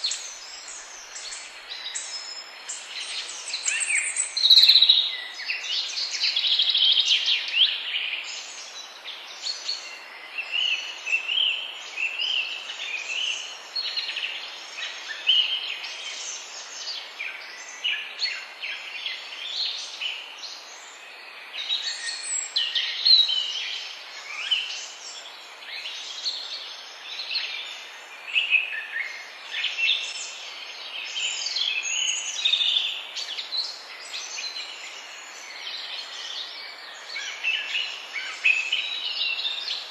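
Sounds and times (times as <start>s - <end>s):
songbirds chirping and trilling: 0.0s - 39.9s
steady background hiss: 0.0s - 39.9s.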